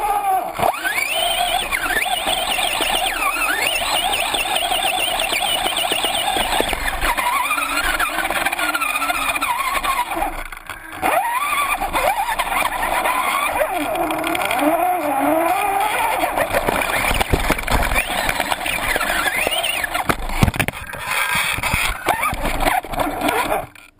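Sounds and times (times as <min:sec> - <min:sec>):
electric motor whining: 0:00.0 - 0:23.9.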